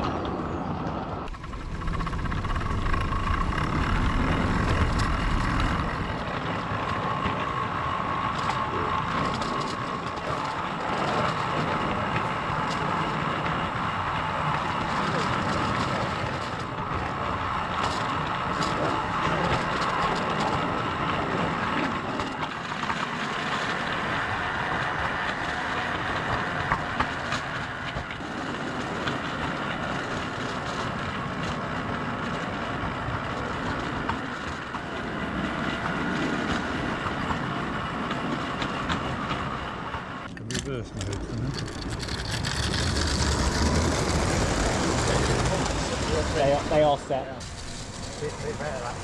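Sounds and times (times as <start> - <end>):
model trains running on track: 0.0 - 49.0.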